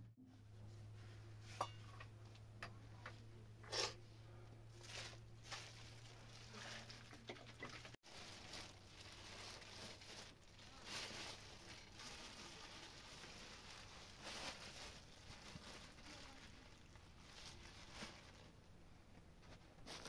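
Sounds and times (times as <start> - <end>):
faint rustles: 3.0 - 20.0.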